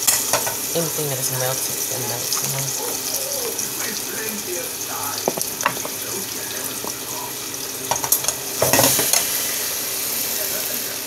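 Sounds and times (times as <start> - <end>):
cheese sizzling in a pot: 0.0 - 11.0.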